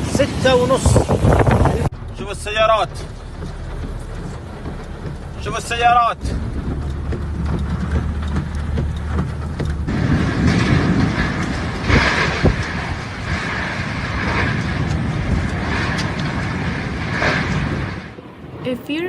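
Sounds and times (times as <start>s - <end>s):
low hum: 0.0s - 19.0s
vehicles on road: 0.0s - 19.0s
wind and rain rushing: 0.0s - 19.0s.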